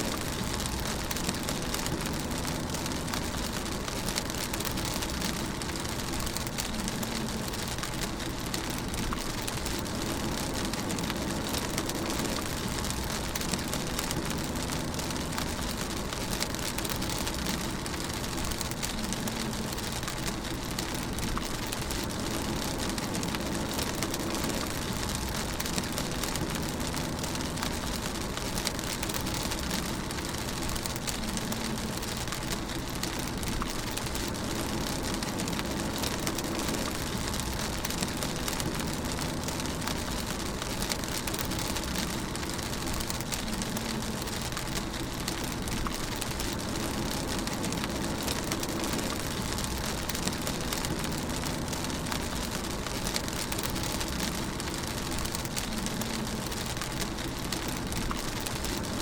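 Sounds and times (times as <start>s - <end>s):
rain on a car roof: 0.0s - 59.0s
road and engine rumble: 0.0s - 59.0s.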